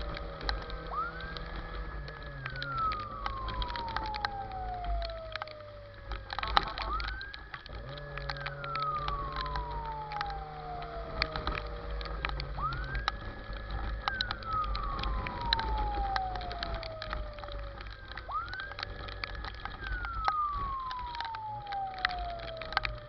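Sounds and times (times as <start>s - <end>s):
fire truck siren wailing: 0.0s - 23.0s
low rumble: 0.0s - 23.0s
sharp crackles: 0.0s - 23.0s.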